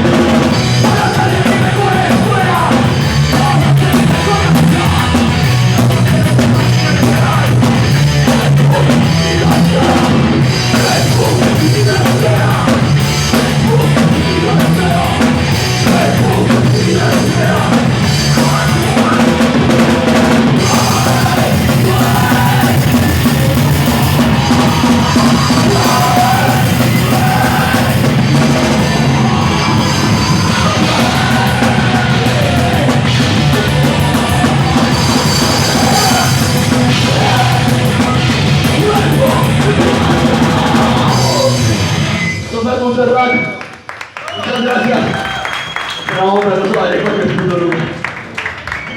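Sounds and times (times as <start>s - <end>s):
shouted vocals: 0.0s - 41.8s, 44.2s - 47.4s
punk band playing live: 0.0s - 48.9s.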